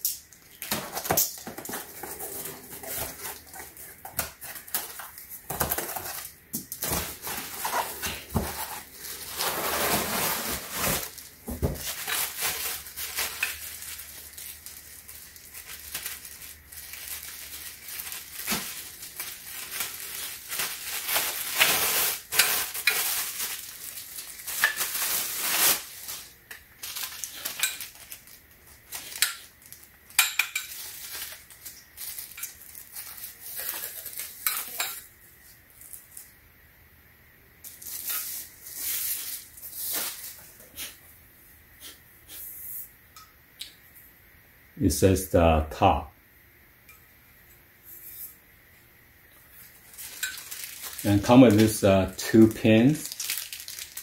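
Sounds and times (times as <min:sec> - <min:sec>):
plastic wrapping rustling: 0:00.0 - 0:36.3, 0:37.6 - 0:41.0, 0:49.4 - 0:54.0.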